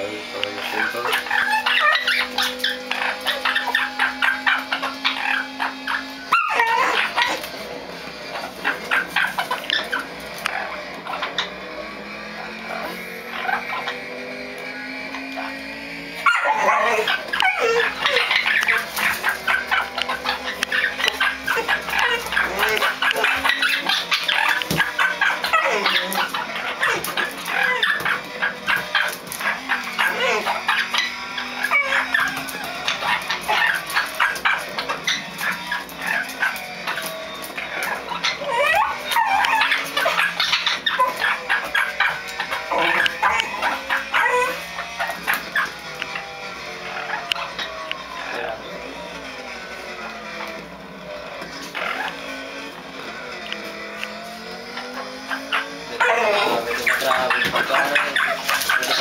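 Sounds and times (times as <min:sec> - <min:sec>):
parrot squawking: 0:00.5 - 0:14.2, 0:15.1 - 0:49.3, 0:50.0 - 0:52.4, 0:54.7 - 0:59.0
dog whining and yipping: 0:00.7 - 0:11.6, 0:15.1 - 0:46.3, 0:46.9 - 0:48.4, 0:51.6 - 0:52.3, 0:54.6 - 0:59.0.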